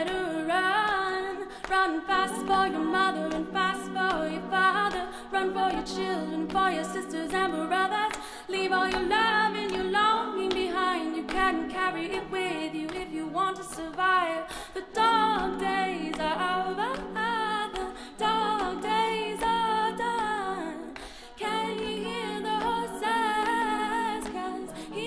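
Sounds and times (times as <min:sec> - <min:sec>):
group singing backing chords: 0:00.0 - 0:25.0
solo female voice singing: 0:00.0 - 0:25.0.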